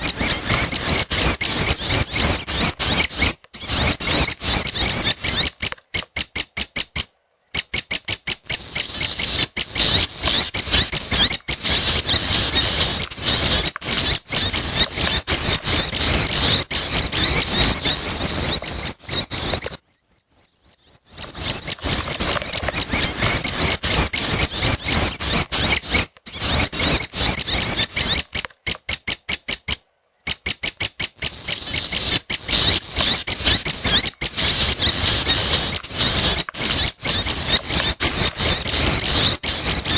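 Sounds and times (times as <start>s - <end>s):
young birds chittering: 0.0s - 29.7s, 30.3s - 39.9s.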